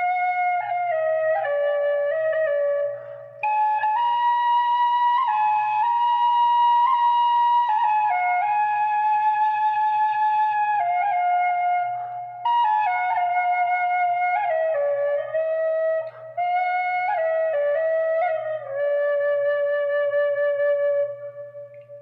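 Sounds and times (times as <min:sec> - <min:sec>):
solo flute melody: 0:00.0 - 0:22.0.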